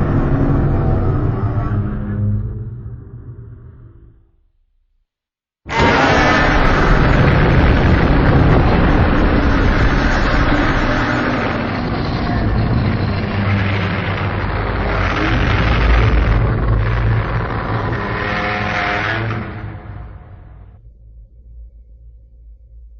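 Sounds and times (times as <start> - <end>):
loud deep rumbling: 0.0 - 5.0, 5.7 - 21.0.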